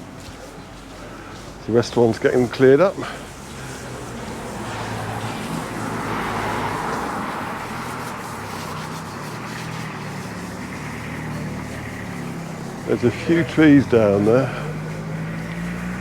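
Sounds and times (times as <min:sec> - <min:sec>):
vehicle passing: 0:00.0 - 0:16.0.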